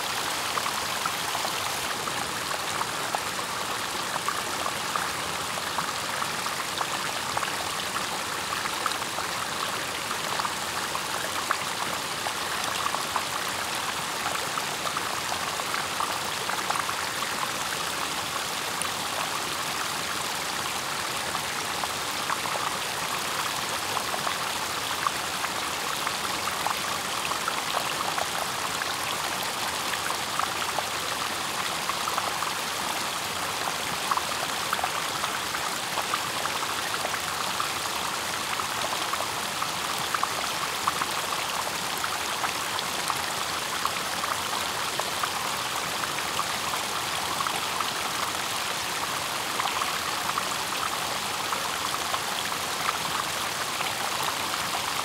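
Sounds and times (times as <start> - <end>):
water rushing and splashing: 0.0 - 55.0.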